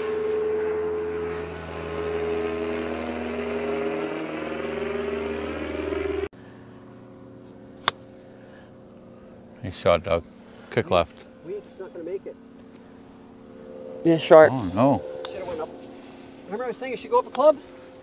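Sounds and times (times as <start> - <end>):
propeller airplane flying overhead: 0.0 - 18.0.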